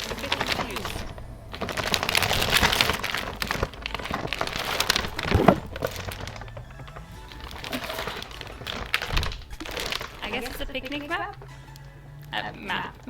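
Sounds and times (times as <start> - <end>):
picnic sheet rustling: 0.0 - 13.0
plastic packaging crinkling: 0.0 - 13.0.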